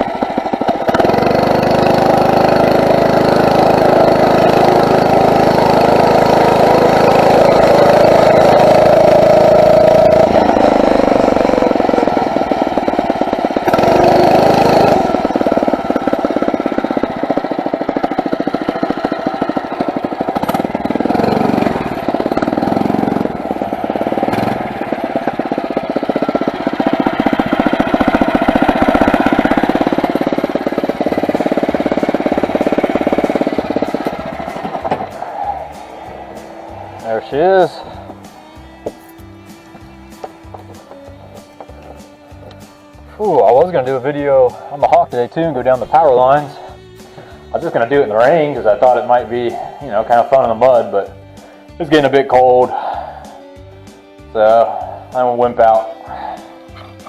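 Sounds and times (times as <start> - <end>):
motorized bicycle engine running: 0.0 - 52.0, 52.7 - 57.0.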